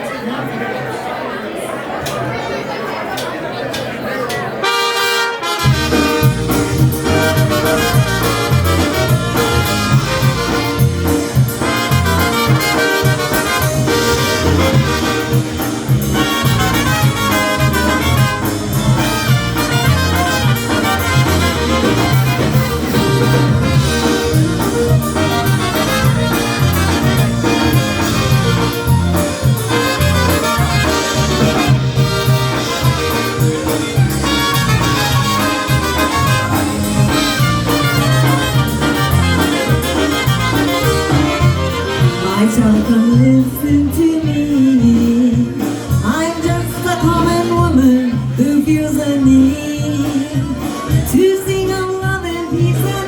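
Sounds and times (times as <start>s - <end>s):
polka band playing: 3.1s - 53.0s.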